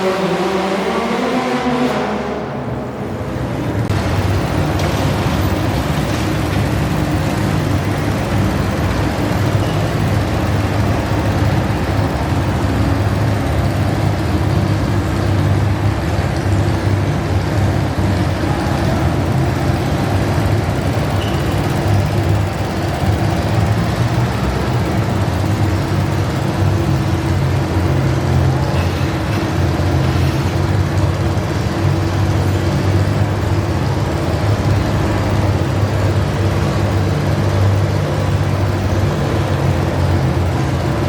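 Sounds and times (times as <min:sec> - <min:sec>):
tractor engine running hard: 0:00.0 - 0:41.0.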